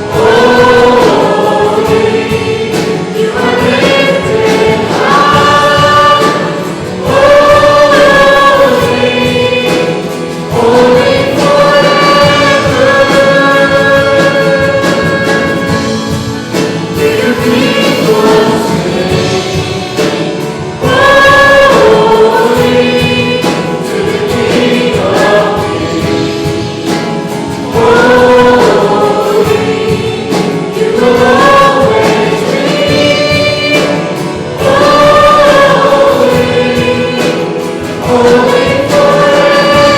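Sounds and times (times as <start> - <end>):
group singing worship song: 0.0 - 39.9
music: 0.0 - 39.9.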